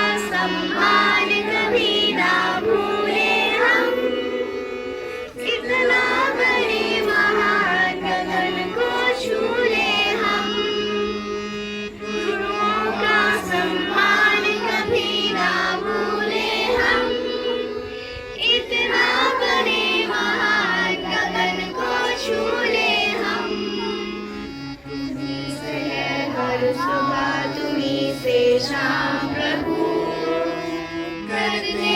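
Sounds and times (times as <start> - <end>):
children singing: 0.0 - 31.9
instrumental accompaniment: 0.0 - 31.9.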